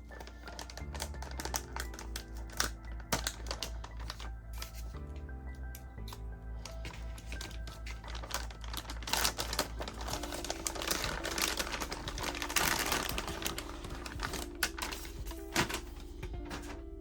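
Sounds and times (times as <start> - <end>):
background music: 0.0 - 17.0
packaging clicks and rustling: 0.0 - 17.0.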